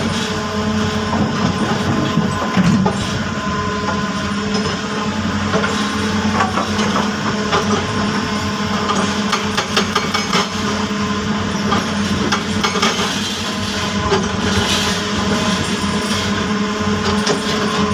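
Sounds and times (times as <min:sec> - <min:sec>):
heavy diesel engine under load: 0:00.0 - 0:17.9.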